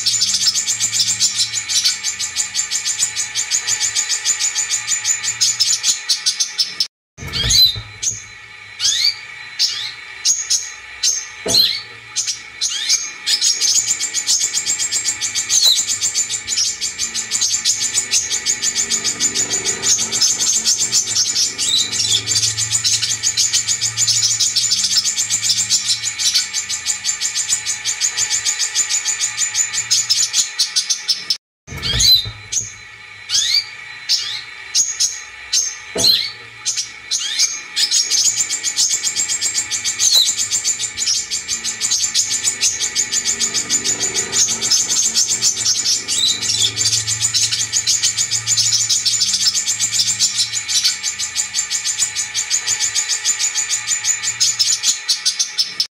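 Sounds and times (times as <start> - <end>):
sunbird song: 0.0 - 55.9.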